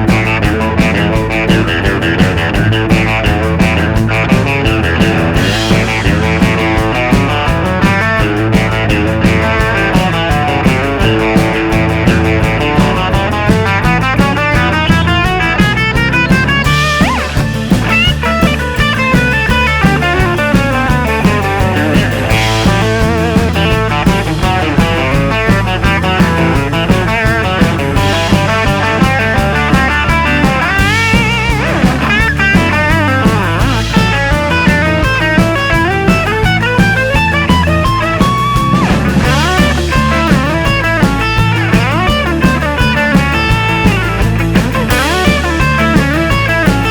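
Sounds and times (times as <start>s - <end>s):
electric guitar lead lines: 0.0s - 46.9s
rock music: 0.0s - 46.9s
steady bass beat: 0.0s - 46.9s.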